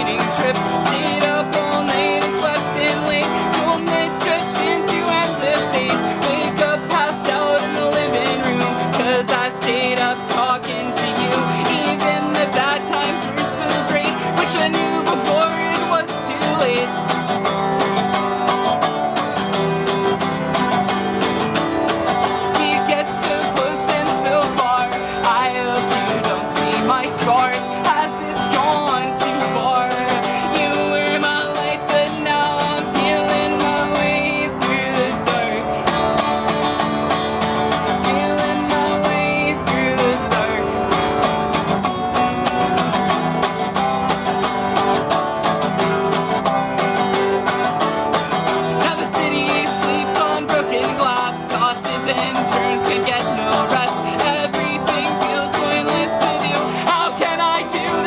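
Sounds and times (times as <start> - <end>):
strummed acoustic guitar: 0.0 - 58.0.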